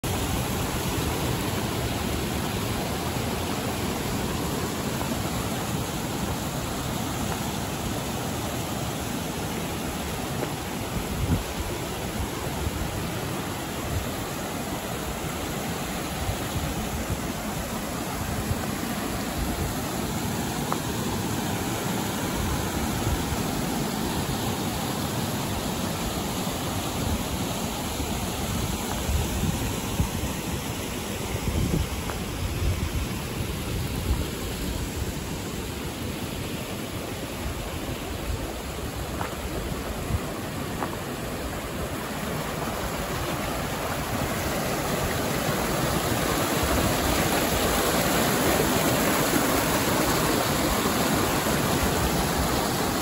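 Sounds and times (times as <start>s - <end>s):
river rushing: 0.0s - 53.0s.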